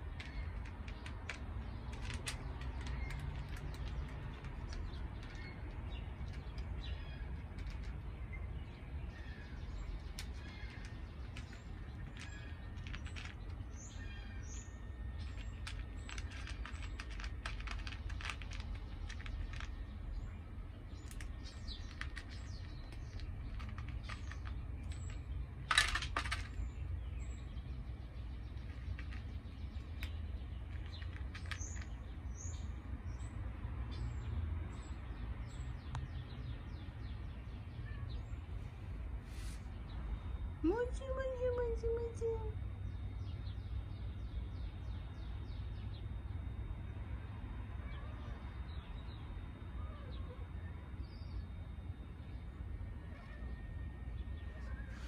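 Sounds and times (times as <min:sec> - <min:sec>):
low outdoor rumble: 0:00.0 - 0:55.0
small birds chirping: 0:00.0 - 0:55.0.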